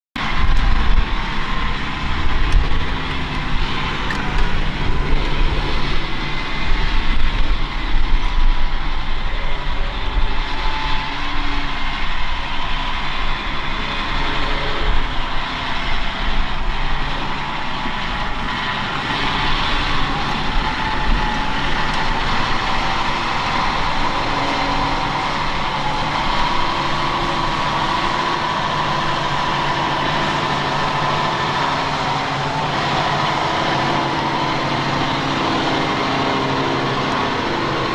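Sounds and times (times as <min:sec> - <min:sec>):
tractor diesel engine running: 0:00.2 - 0:37.9.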